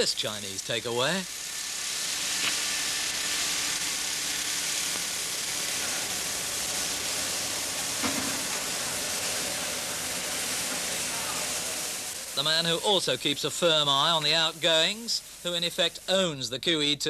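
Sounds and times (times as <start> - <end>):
steady loud hissing: 0.0 - 17.0.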